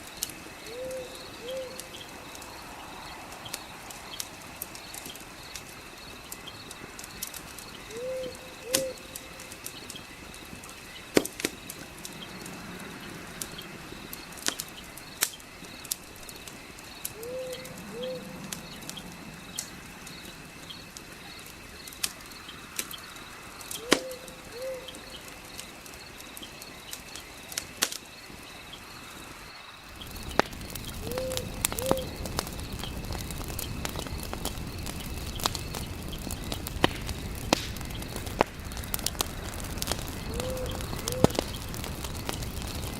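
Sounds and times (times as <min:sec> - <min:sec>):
deep rushing fire noise: 0:00.0 - 0:42.9
insect trill: 0:00.0 - 0:42.9
wood fire crackling and popping: 0:00.0 - 0:42.9.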